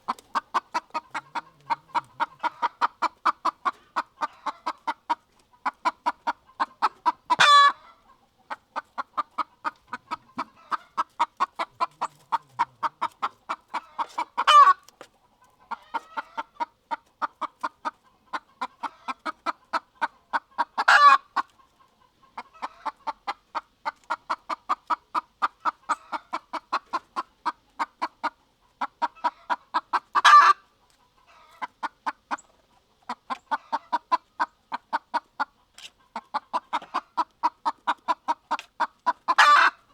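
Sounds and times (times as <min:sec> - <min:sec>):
rooster clucking: 0:00.0 - 0:39.9.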